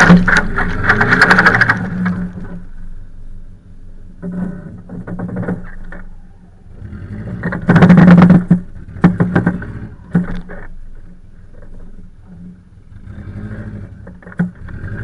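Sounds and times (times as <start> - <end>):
car engine running: 0.0 - 5.2, 6.0 - 15.0.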